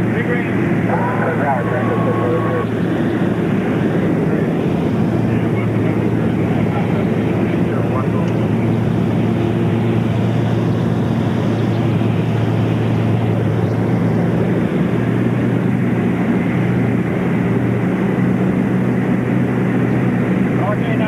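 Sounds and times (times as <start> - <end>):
plane engine and propeller droning: 0.0 - 21.0.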